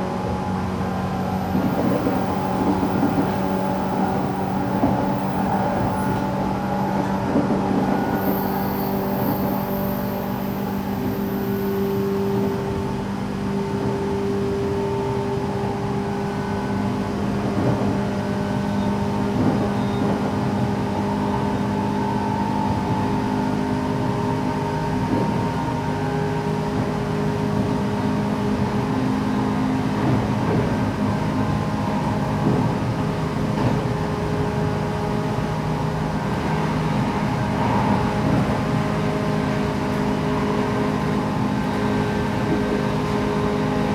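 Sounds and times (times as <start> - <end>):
train motor hum and whine: 0.0 - 43.9.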